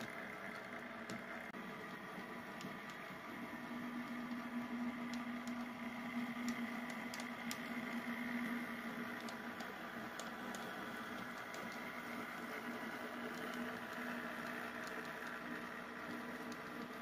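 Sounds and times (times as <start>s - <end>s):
model train motor hum: 0.0s - 17.0s
wheels rumbling on track: 0.0s - 17.0s.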